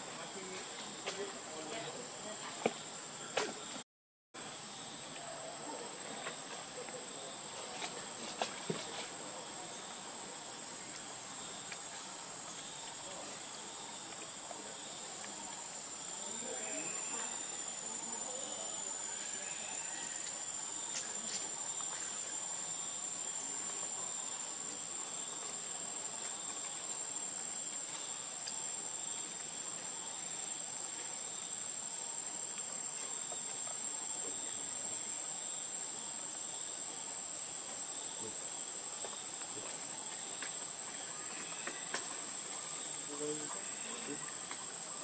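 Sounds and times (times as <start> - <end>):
insects chirring: 0.0 - 3.8, 4.4 - 45.0.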